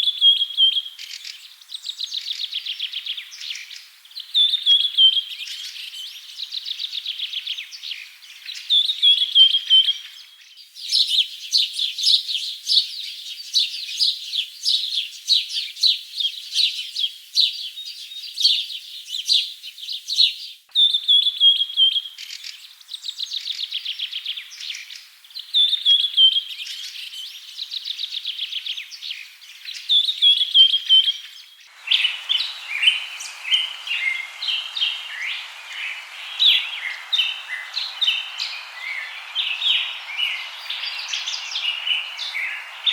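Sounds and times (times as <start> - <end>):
birds chirping and trilling: 0.0 - 27.5, 28.8 - 42.9.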